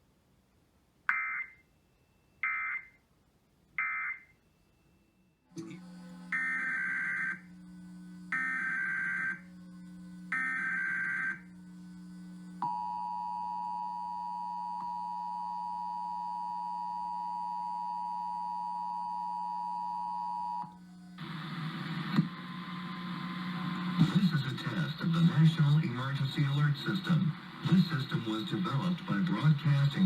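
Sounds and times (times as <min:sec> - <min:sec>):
low steady hum: 0:04.6 - 0:30.0.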